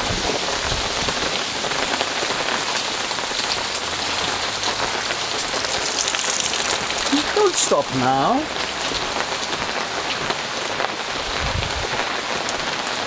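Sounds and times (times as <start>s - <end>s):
heavy rain drumming on umbrella: 0.0s - 13.0s.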